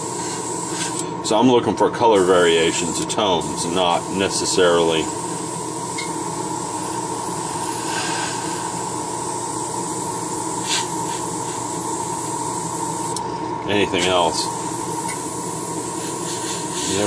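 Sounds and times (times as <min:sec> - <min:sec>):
airbrush spraying air hiss: 0:00.0 - 0:01.0, 0:02.1 - 0:13.2, 0:14.1 - 0:17.0
mechanical hum: 0:00.0 - 0:17.0.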